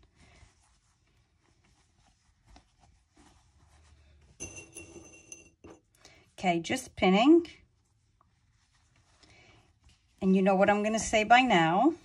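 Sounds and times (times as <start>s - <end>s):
fabric rustling: 0.0s - 5.8s, 7.6s - 12.0s.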